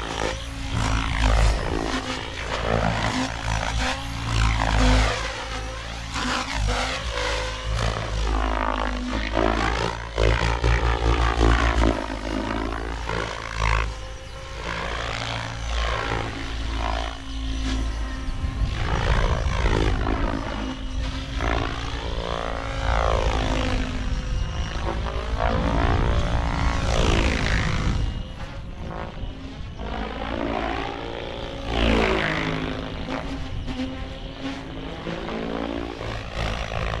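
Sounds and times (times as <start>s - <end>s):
rc helicopter rotor drone: 0.0s - 37.0s
tail rotor whine: 0.0s - 37.0s.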